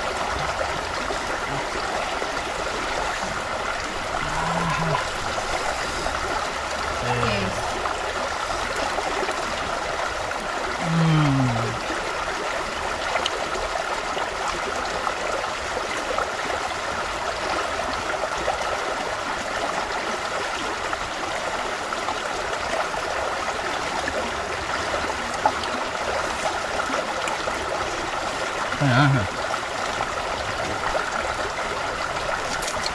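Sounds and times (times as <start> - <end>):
river rushing over stones: 0.0 - 32.9.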